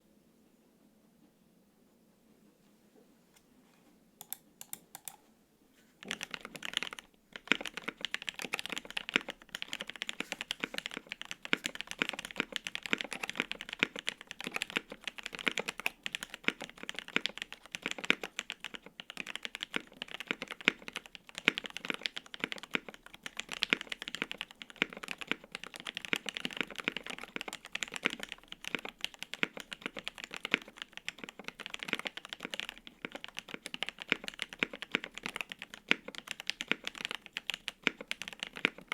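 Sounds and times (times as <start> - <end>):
fast typing on mechanical keyboard: 4.2 - 5.2, 6.0 - 38.9.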